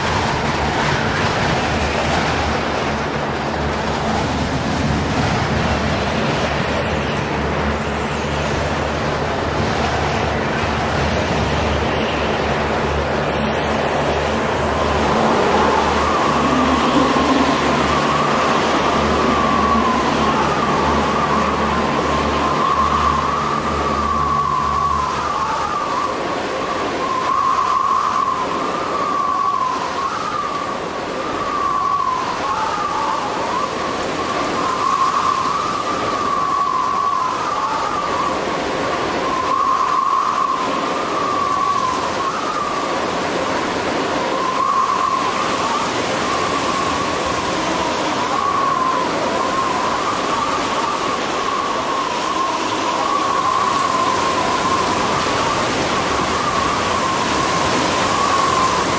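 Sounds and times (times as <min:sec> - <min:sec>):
rushing storm noise: 0:00.0 - 0:58.9
whistling wavering tone: 0:00.0 - 0:58.9.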